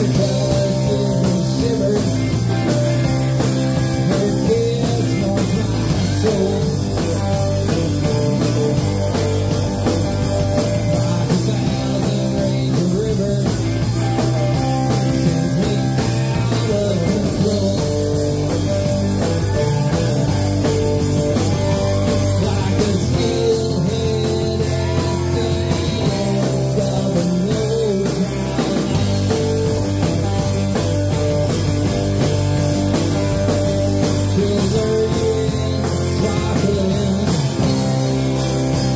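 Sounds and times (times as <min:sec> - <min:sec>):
acoustic-electric guitar: 0:00.0 - 0:38.9
bass guitar: 0:00.0 - 0:38.9
drum kit: 0:00.0 - 0:38.9
electric guitars: 0:00.0 - 0:38.9.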